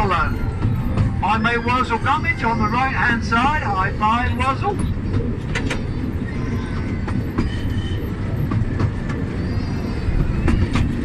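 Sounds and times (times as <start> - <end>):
train wheels rumbling: 0.0 - 11.0
wheels clicking on rails: 0.0 - 11.0.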